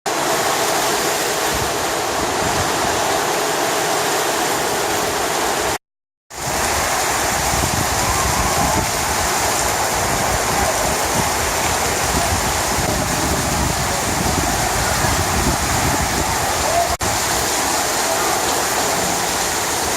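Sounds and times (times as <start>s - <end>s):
heavy rain pouring: 0.1s - 19.9s.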